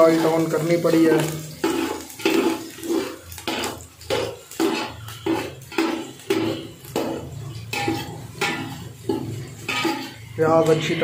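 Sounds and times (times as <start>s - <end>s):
onions frying: 0.0s - 11.0s
spoon scraping metal pot: 1.2s - 10.4s.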